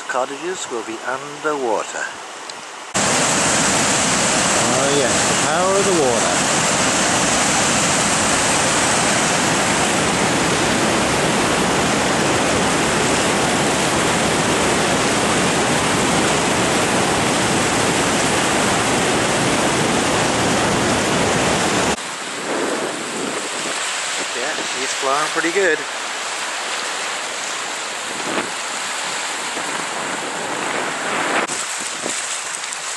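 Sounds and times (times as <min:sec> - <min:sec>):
water rushing through sluice: 0:02.9 - 0:32.9.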